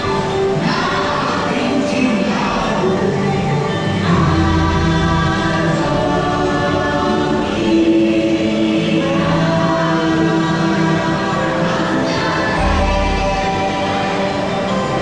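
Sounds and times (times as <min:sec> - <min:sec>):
choir singing long notes: 0:00.0 - 0:15.0
musical backing: 0:00.0 - 0:15.0.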